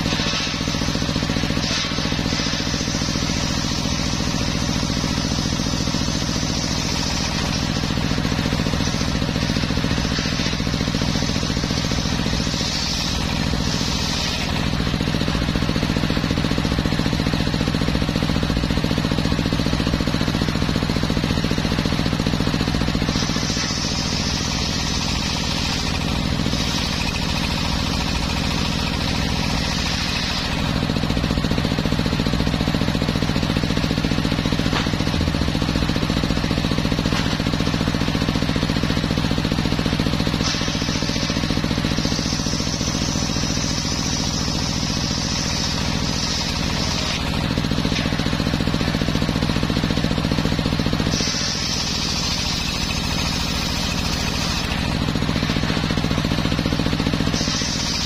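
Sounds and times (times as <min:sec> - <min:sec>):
saw blade cutting wood hiss: 0:00.0 - 0:16.2, 0:22.1 - 0:31.4, 0:32.8 - 0:49.4, 0:50.8 - 0:58.0
sawmill mechanical drone: 0:00.0 - 0:58.0.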